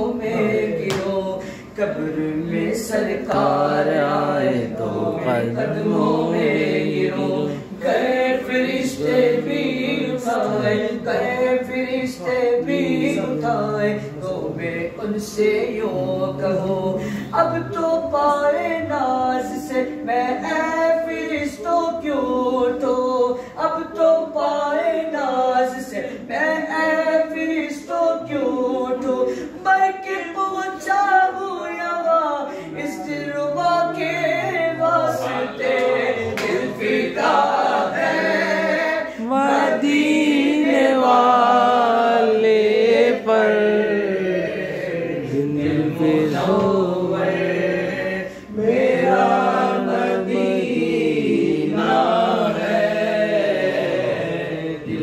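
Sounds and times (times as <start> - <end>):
men singing unaccompanied: 0.0 - 55.0.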